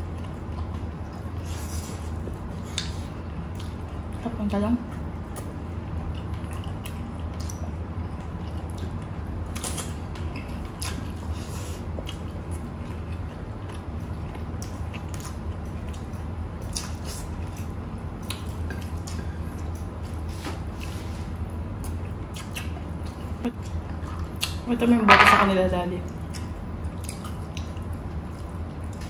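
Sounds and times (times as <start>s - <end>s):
chewing and lip smacks: 0.0s - 4.2s, 4.9s - 21.0s, 21.7s - 24.6s, 26.1s - 29.0s
steady low hum: 0.0s - 29.0s.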